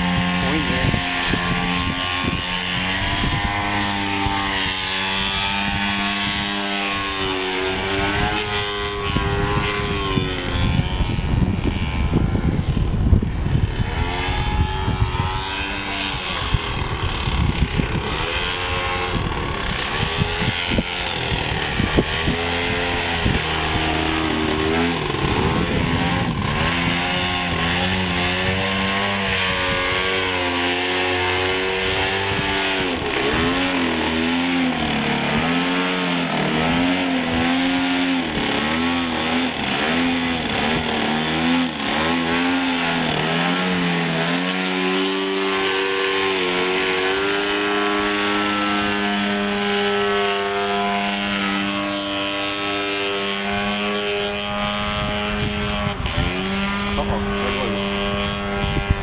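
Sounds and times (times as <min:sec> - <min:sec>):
model plane engine running: 0:00.0 - 0:59.0.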